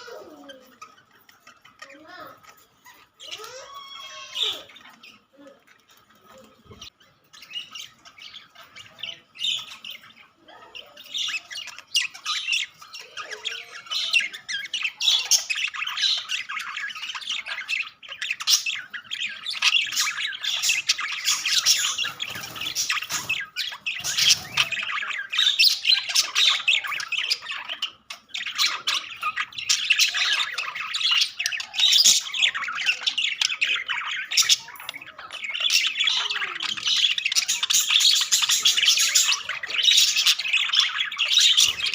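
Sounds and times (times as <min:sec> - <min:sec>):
budgerigars chattering and squawking: 0:00.0 - 0:41.9.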